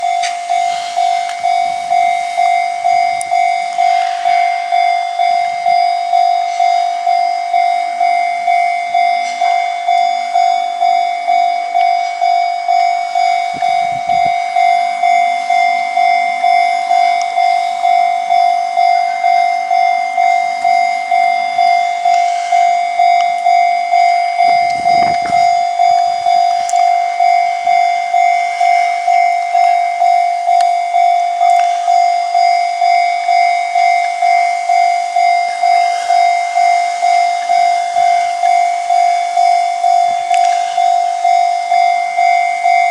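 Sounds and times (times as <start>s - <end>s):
level crossing alarm bell ringing: 0.0s - 42.9s.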